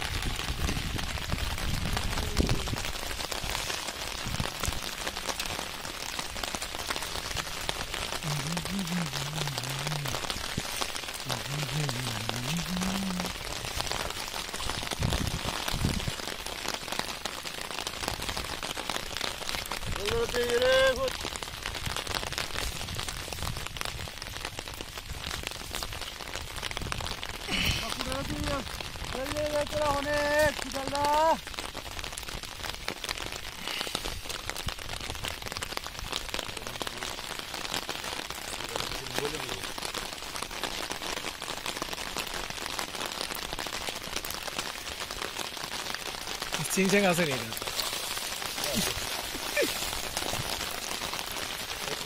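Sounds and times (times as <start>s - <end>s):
rain pattering on water: 0.0s - 52.0s.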